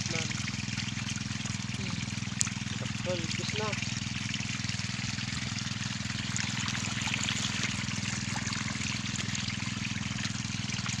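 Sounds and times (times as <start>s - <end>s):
low motor hum: 0.0s - 11.0s
water pouring from a hose: 0.0s - 11.0s.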